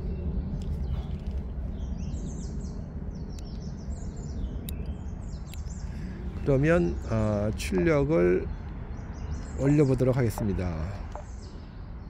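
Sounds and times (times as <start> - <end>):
low outdoor background rumble: 0.0 - 12.0
songbird chirping: 0.0 - 12.0.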